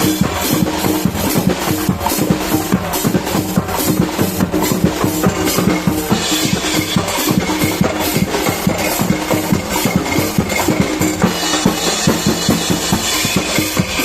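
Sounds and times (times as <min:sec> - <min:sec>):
percussion group drumming: 0:00.0 - 0:14.0.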